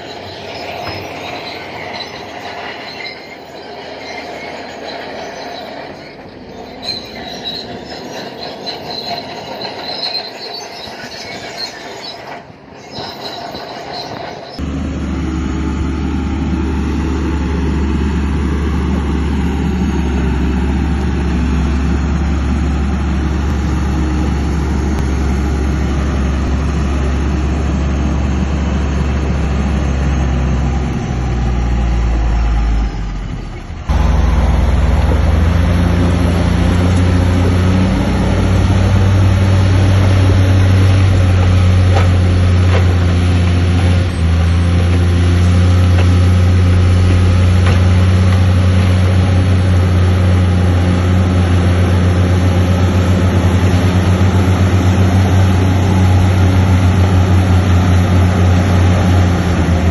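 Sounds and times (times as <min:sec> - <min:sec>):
crawler tracks squealing and clanking: 0:00.0 - 0:59.9
diesel engine drone: 0:00.0 - 0:59.9.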